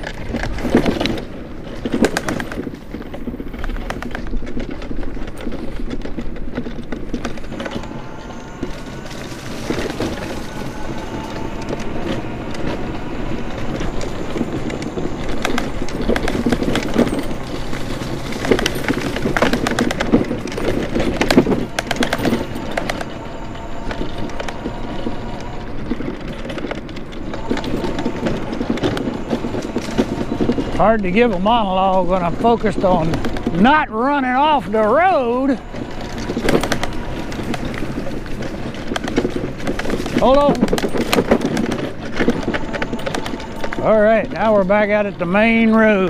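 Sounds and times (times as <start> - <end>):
clatters and knocks over bumps: 0.0 - 46.0
scooter wheels rumbling: 0.0 - 46.0.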